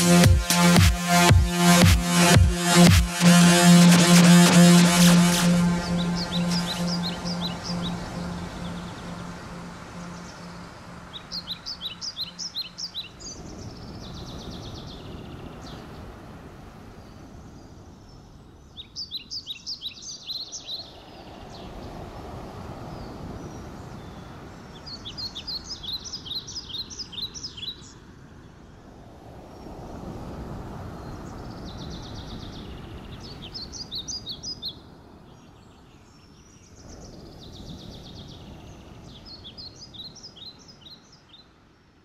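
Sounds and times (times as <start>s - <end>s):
songbird chirping: 0.0s - 28.7s, 30.8s - 42.0s
outdoor background hiss: 0.0s - 42.0s.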